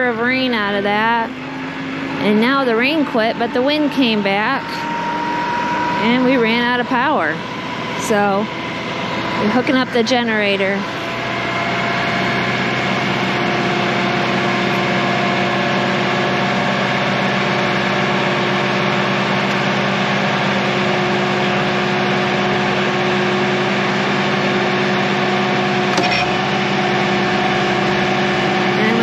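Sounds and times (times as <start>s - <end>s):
generator engine running: 0.0s - 29.0s.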